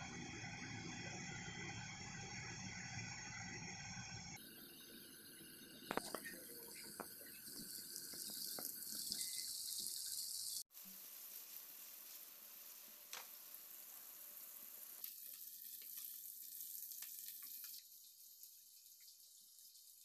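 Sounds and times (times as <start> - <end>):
paneer sizzling in oil: 0.0 - 20.0.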